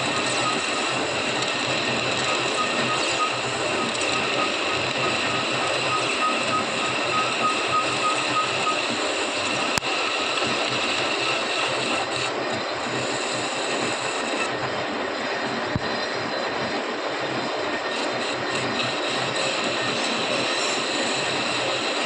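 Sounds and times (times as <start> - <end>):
machine running: 0.0 - 22.0.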